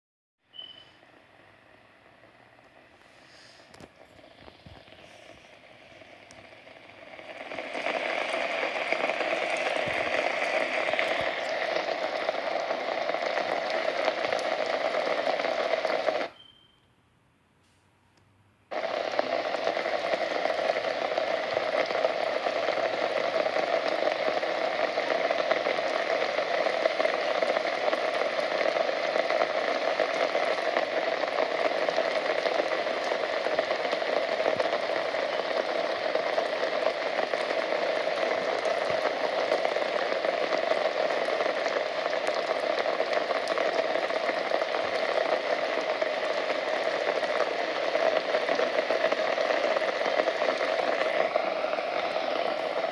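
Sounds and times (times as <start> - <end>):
rain falling: 7.1 - 16.3, 18.7 - 52.9.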